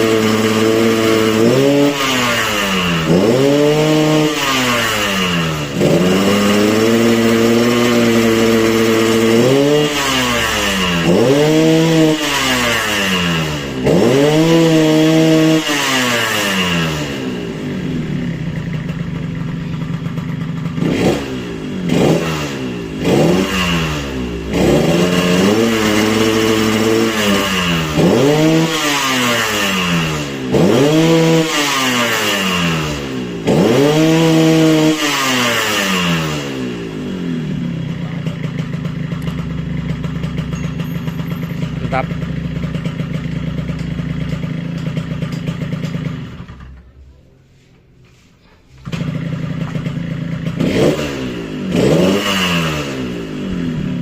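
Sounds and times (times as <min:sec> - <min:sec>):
two-stroke engine revving: 0:00.0 - 0:47.1, 0:48.8 - 0:54.0.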